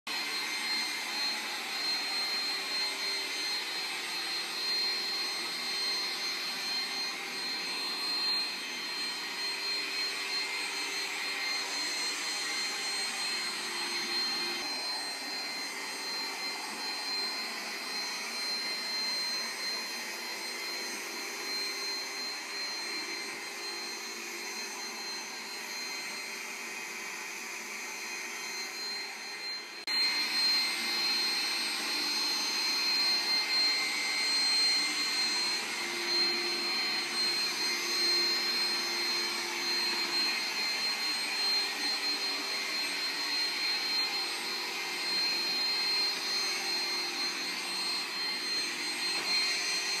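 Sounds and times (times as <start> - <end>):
robot vacuum whirring: 0.1 - 50.0.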